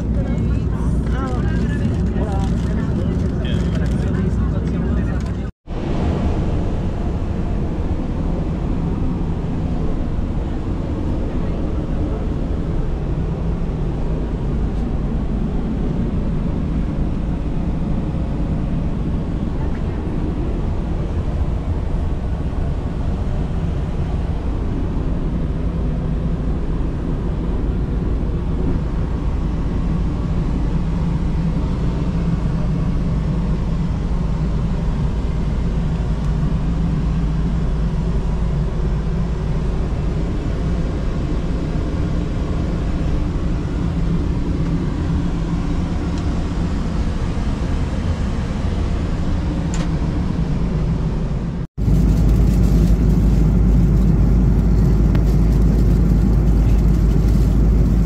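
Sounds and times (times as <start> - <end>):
aircraft cabin rumble: 0.0 - 58.0
steady low hum: 0.0 - 58.0.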